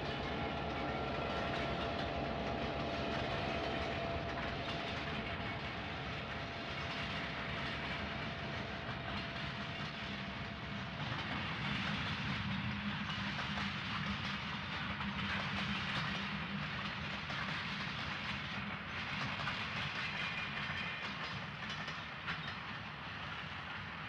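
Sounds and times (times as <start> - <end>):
wheels clicking over rail joints: 0.0 - 23.9
train rumbling along track: 0.0 - 24.0.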